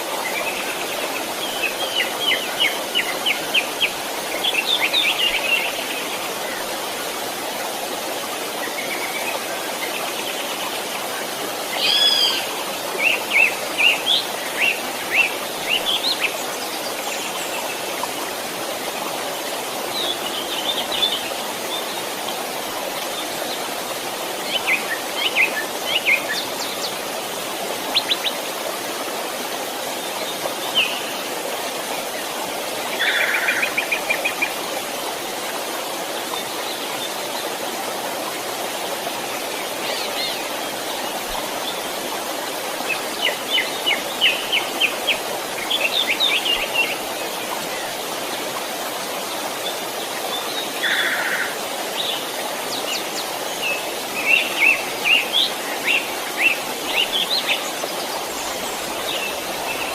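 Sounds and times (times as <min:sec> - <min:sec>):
stream running: 0:00.0 - 0:59.9.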